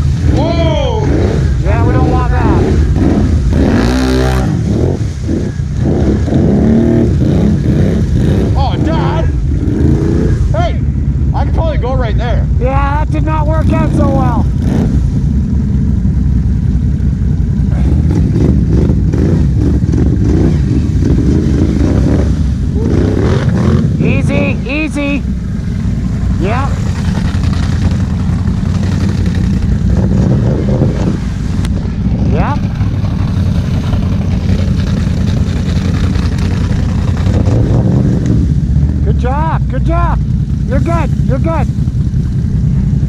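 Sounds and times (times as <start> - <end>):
tires spinning in mud: 0.0 - 10.8, 17.6 - 43.0
atv engine revving: 0.0 - 43.0.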